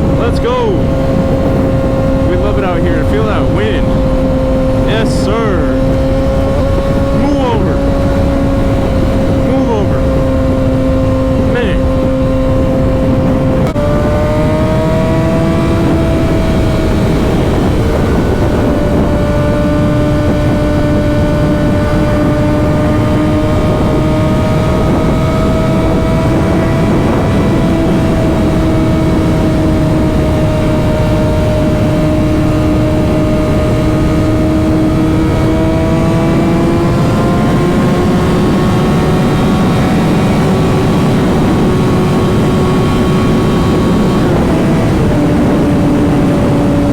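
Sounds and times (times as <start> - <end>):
motorcycle engine cruising: 0.0 - 46.9
wind noise: 0.0 - 46.9.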